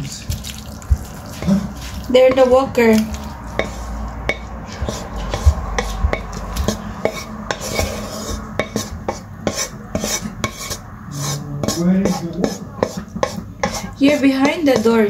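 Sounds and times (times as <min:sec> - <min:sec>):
utensil scraping a frying pan: 0:01.1 - 0:15.0.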